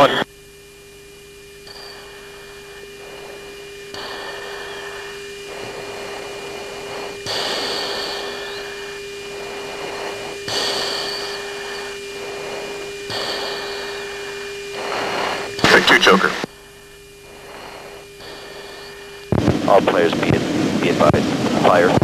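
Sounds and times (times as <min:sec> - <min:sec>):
radio hiss: 0:00.0 - 0:22.0
steady hum-like tone: 0:00.0 - 0:22.0.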